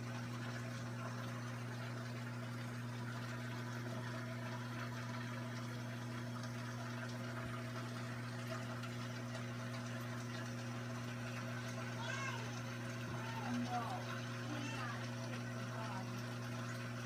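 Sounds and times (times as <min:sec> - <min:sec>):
aquarium pump hum: 0:00.0 - 0:17.0
water trickling and splashing: 0:00.0 - 0:17.0.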